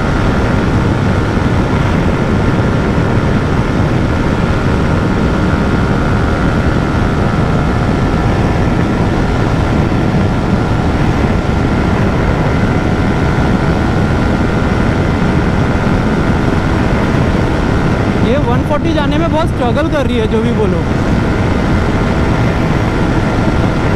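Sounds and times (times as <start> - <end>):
motorcycle engine at high revs: 0.0 - 23.9
wind rush on microphone: 0.0 - 23.9.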